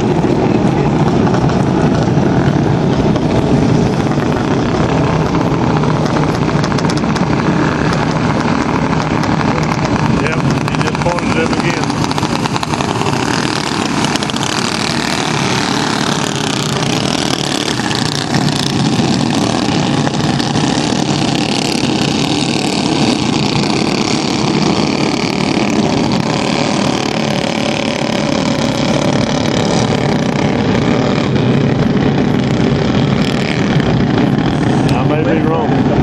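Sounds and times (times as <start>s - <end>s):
racing engines droning: 0.0s - 36.0s.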